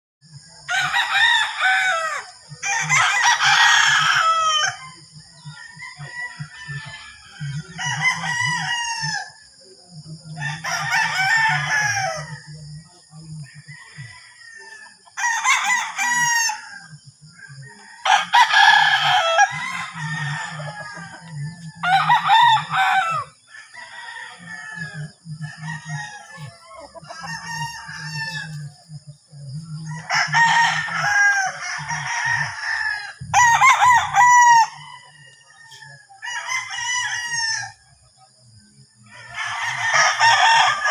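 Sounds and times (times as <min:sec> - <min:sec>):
roosters crowing: 0:00.3 - 0:40.9.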